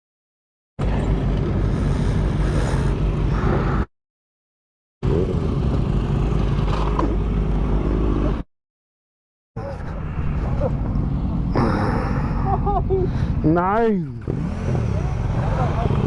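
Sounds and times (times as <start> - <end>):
road and wind noise: 0.8 - 3.9, 5.0 - 8.4, 9.6 - 16.0.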